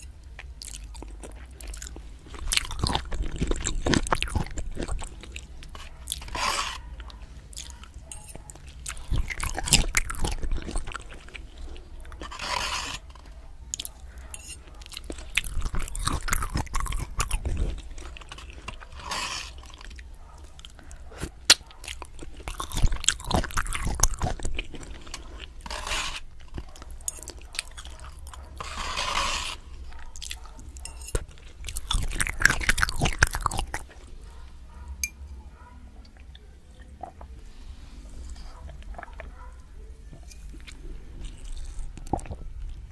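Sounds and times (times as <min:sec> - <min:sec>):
chewing noodles: 0:00.0 - 0:42.9.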